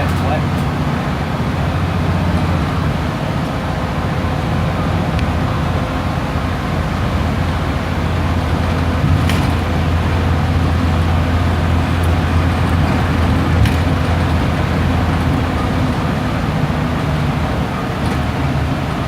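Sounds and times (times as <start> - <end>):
bus engine drone: 0.0 - 19.0.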